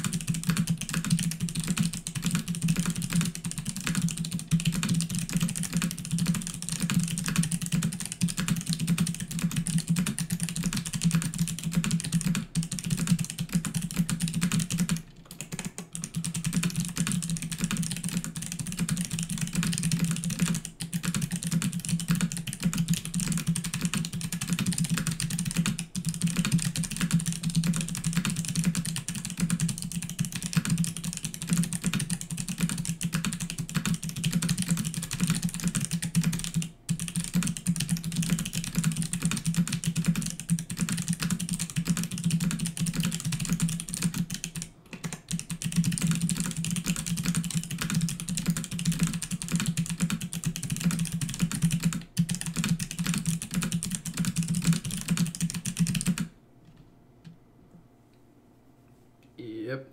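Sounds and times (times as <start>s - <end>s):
clicky mechanical keyboard typing: 0.0s - 56.3s.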